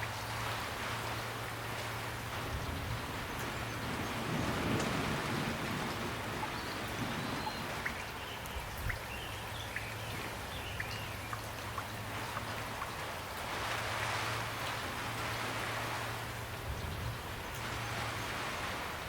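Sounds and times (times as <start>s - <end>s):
raindrops tapping close by: 0.0s - 19.0s
steady rain falling: 0.0s - 19.0s.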